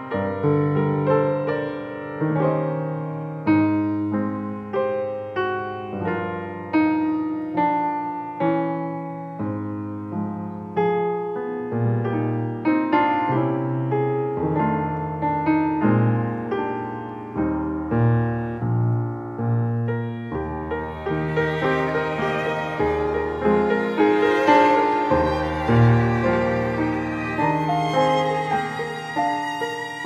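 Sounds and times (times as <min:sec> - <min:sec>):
slow solo piano piece: 0:00.0 - 0:30.0.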